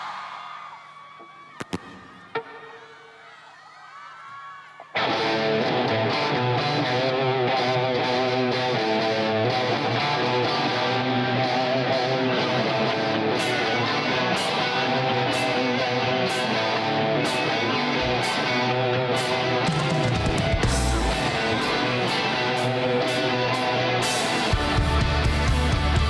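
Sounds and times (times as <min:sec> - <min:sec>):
rock band playing: 0:05.0 - 0:26.0.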